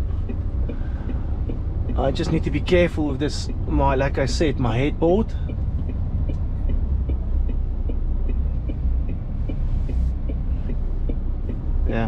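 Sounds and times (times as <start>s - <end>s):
diesel engine running at low revs: 0.0s - 12.0s
light ticking: 0.0s - 12.0s.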